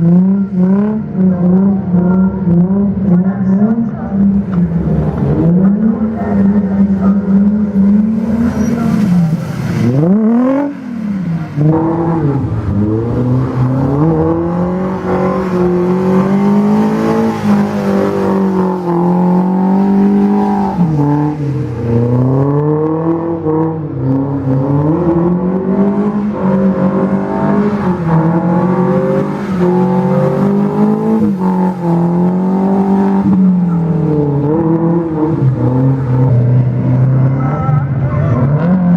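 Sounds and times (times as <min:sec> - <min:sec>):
car engine revving high: 0:00.0 - 0:38.9.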